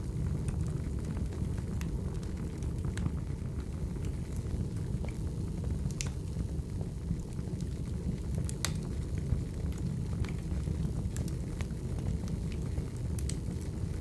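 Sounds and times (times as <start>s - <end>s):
fire crackling pops: 0.0s - 14.0s
fire rumbling: 0.0s - 14.0s.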